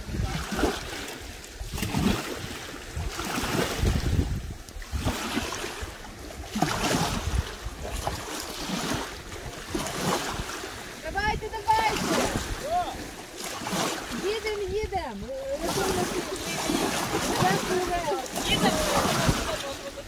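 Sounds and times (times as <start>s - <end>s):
small waves washing in: 0.0s - 20.0s
wind blowing across microphone: 0.0s - 20.0s.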